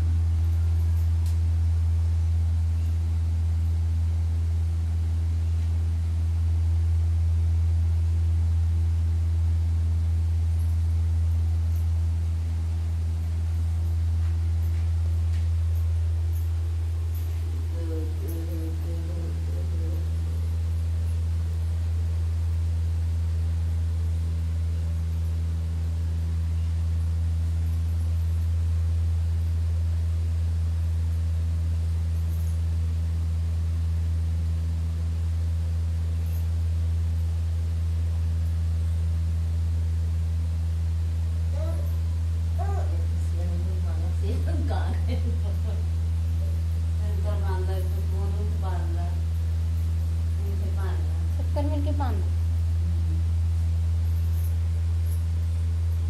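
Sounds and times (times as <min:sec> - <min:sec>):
faint steady tones: 0:00.0 - 0:56.0
steady low hum: 0:00.0 - 0:56.0.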